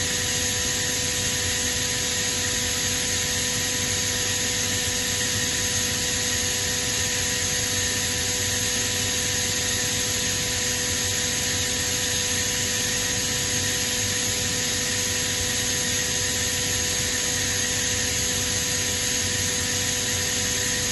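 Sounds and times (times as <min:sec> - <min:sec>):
air compressor running: 0:00.0 - 0:20.9.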